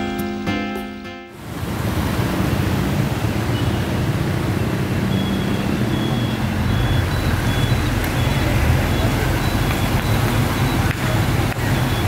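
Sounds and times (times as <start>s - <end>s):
small engines rumbling: 1.5s - 12.0s.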